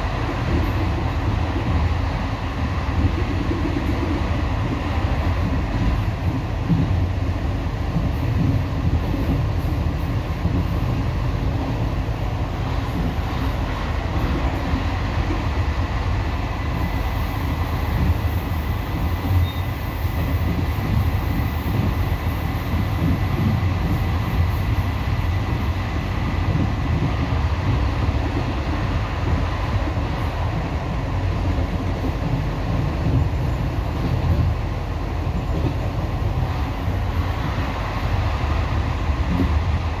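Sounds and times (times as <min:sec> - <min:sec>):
rumble of train wheels on track: 0:00.0 - 0:40.0.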